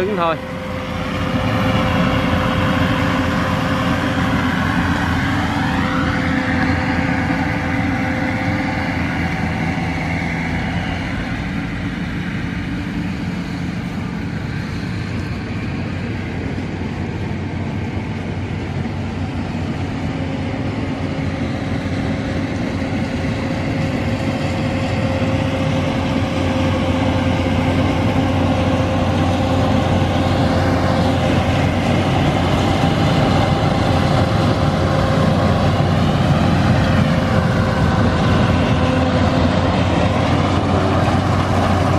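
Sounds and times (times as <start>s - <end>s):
diesel engine drone: 0.0s - 41.9s
threshing machinery whirr: 0.0s - 41.9s.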